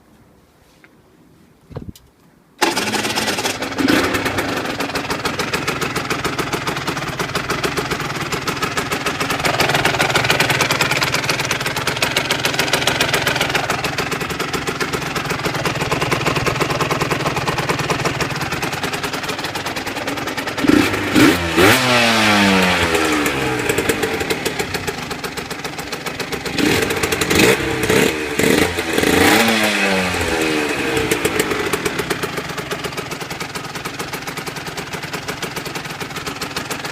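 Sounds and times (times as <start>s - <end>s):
motorcycle engine idling and revving: 2.6s - 36.9s.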